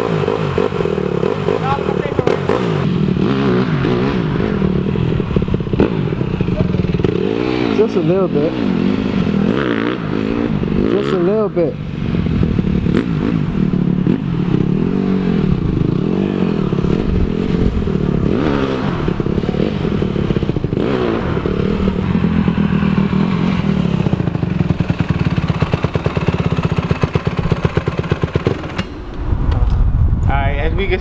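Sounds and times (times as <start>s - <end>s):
dirt bike engine revving: 0.0s - 29.8s.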